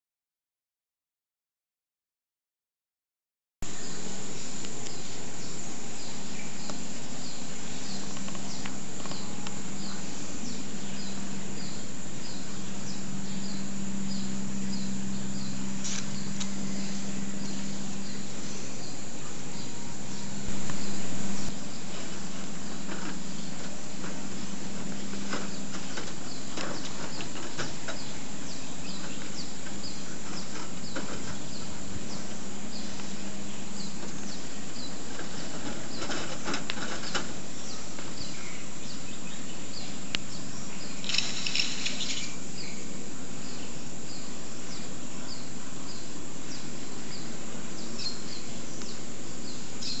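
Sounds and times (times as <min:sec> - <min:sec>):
birdsong: 0:03.6 - 0:50.0.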